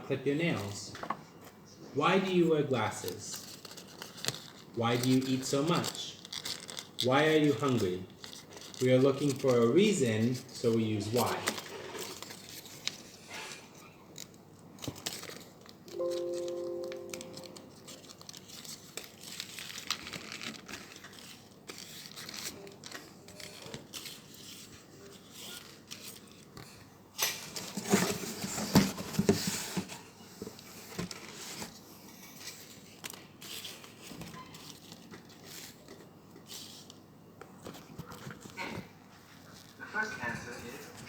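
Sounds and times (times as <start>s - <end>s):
paper rustling and crinkling: 3.0s - 39.8s.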